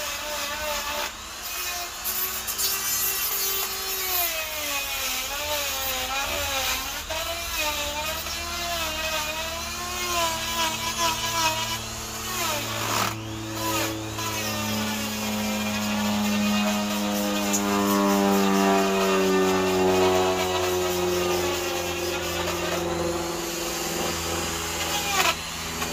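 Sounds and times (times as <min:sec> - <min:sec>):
die grinder whine cutting wood: 0:00.0 - 0:25.9.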